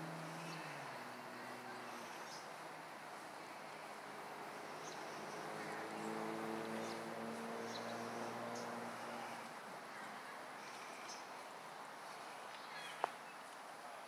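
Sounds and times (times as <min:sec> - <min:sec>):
distant engine droning: 0:00.0 - 0:11.3
outdoor background noise: 0:00.0 - 0:14.0.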